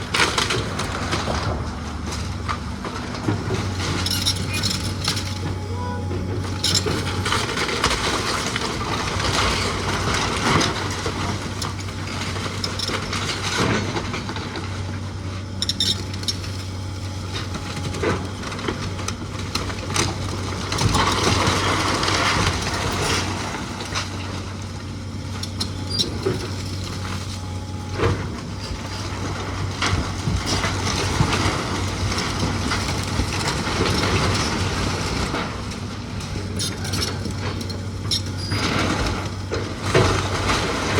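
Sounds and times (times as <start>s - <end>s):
machine engine running: 0.0s - 35.7s
clanks knocks and crunching: 0.0s - 40.9s.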